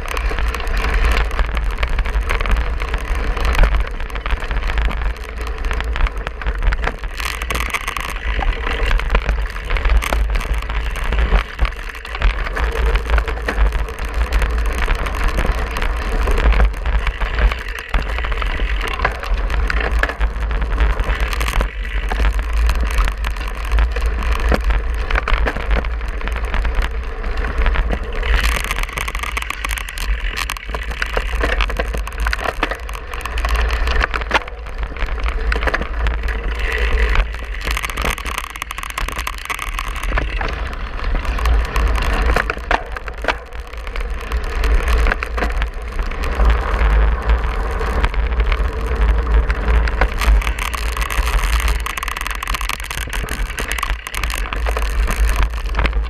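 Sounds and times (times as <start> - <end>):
bike frame rattling: 0.0 - 56.0.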